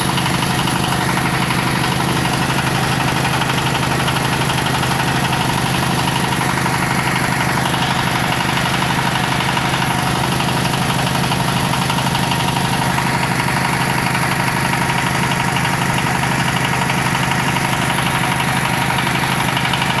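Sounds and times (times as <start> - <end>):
drilling machine engine running: 0.0 - 20.0.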